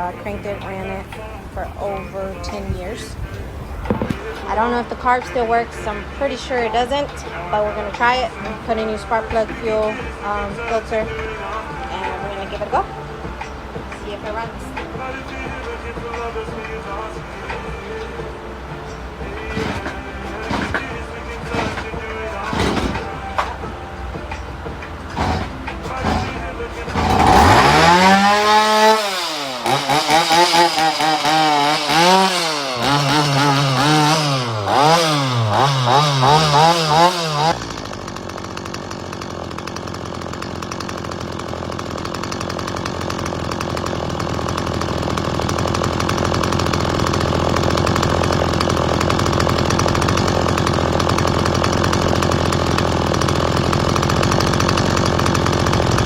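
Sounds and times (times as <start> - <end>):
chainsaw engine revving and idling: 0.0 - 56.0.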